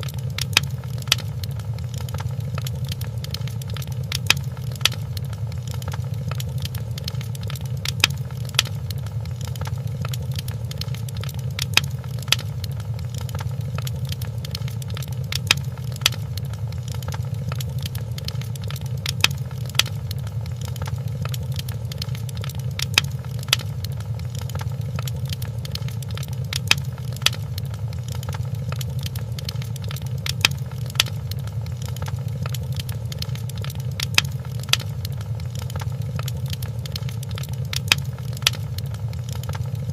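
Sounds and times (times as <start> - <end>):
fire popping: 0.0 - 39.9
fireplace fire rumbling: 0.0 - 39.9.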